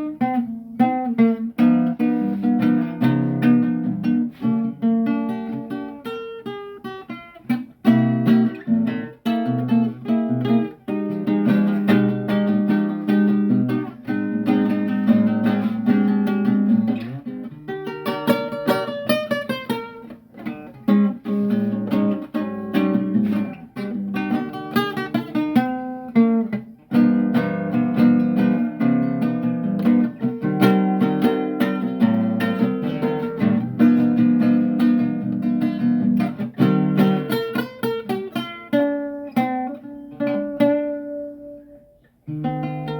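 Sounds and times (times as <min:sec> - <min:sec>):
acoustic guitar strumming and plucking: 0:00.0 - 0:42.9.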